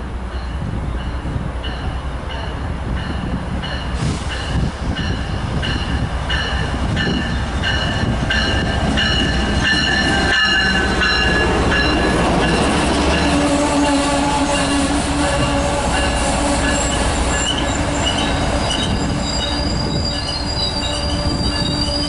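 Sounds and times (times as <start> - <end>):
train rumble: 0.0 - 22.0
train bell ringing: 0.3 - 13.4, 15.4 - 22.0.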